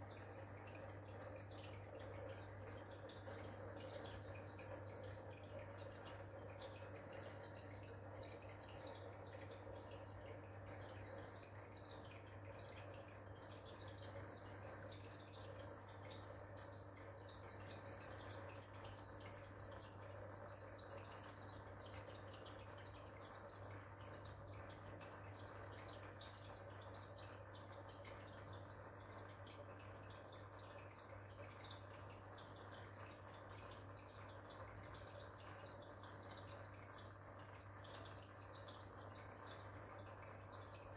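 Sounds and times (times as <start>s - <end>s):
water trickling and dripping: 0.0s - 40.9s.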